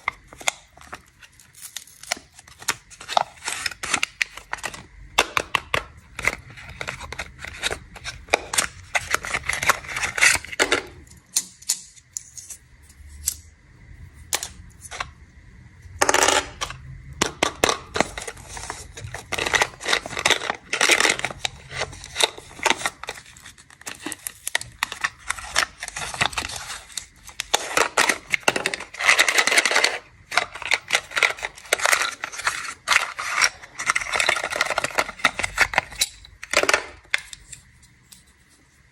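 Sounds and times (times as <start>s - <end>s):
plastic wrappers crinkling: 0.0s - 11.2s, 16.4s - 38.4s.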